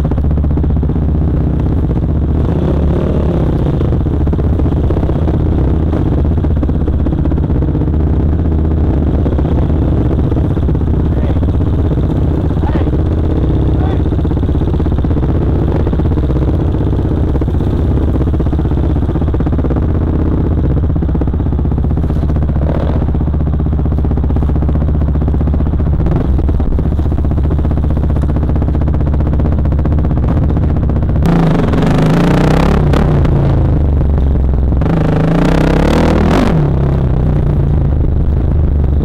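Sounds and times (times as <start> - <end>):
dirt bike engine: 0.0 - 39.0.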